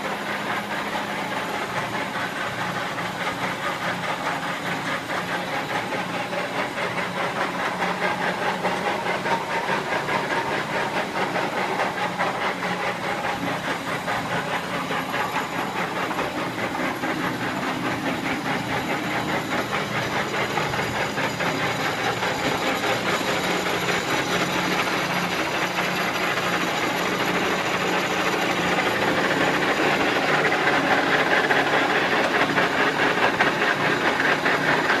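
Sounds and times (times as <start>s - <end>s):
lathe running: 0.0s - 35.0s.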